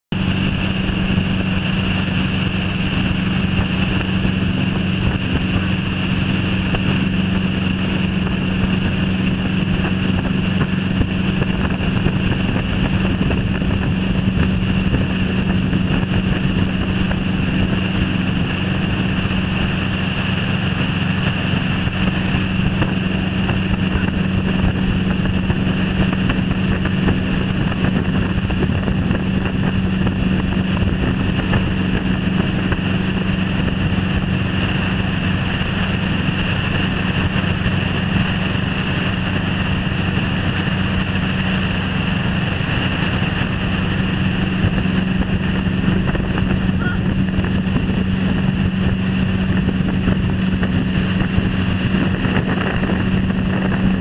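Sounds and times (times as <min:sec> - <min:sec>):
boat engine humming: 0:00.1 - 0:54.0
rushing water: 0:00.1 - 0:54.0
wind on microphone: 0:00.1 - 0:54.0.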